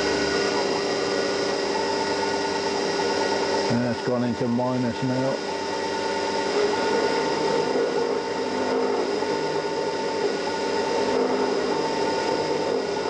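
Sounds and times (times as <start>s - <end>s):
end mill cutting: 0.0s - 13.0s
higher axis motor whine: 0.0s - 13.0s
spindle motor whine: 0.0s - 13.0s.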